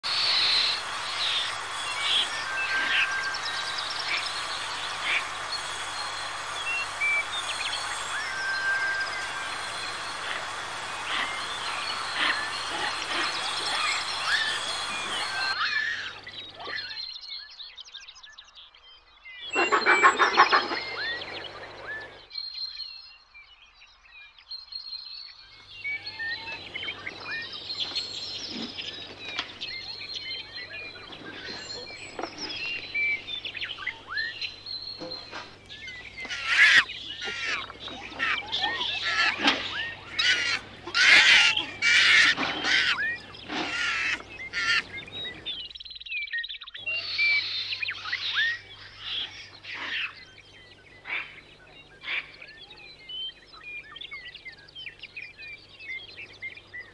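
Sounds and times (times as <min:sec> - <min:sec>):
birds chirping and calling: 0:00.0 - 0:17.2, 0:19.4 - 0:22.3, 0:25.6 - 0:56.9.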